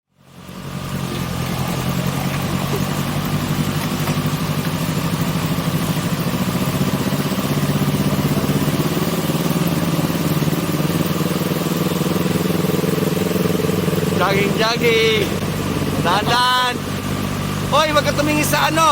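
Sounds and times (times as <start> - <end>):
motorcycle engine at low revs: 0.1 - 18.9.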